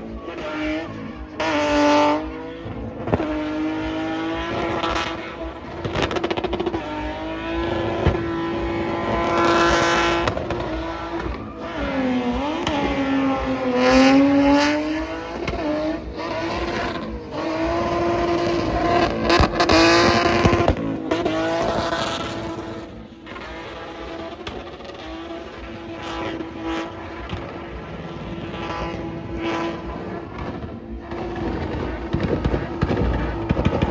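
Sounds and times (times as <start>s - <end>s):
car engine at high revs: 0.0s - 33.9s.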